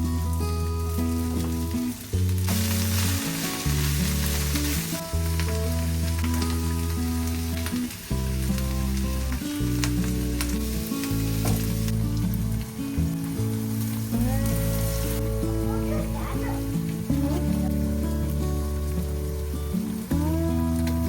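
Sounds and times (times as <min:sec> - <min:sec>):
background music with chords: 0:00.0 - 0:21.0
food sizzling in a hot pan: 0:00.3 - 0:21.0.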